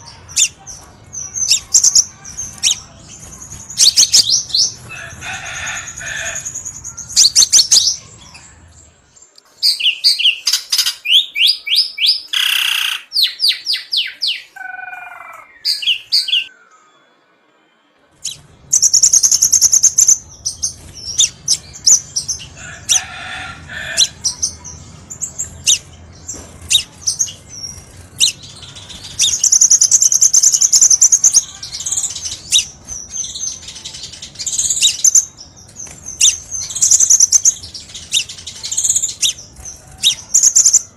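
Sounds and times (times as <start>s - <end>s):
bird chirping and trilling: 0.0s - 9.0s, 9.6s - 17.4s, 18.2s - 40.9s.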